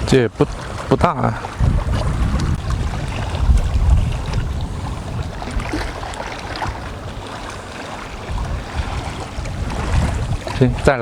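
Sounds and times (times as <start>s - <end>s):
waves lapping at shore: 0.0s - 11.0s
wind buffeting microphone: 0.0s - 11.0s.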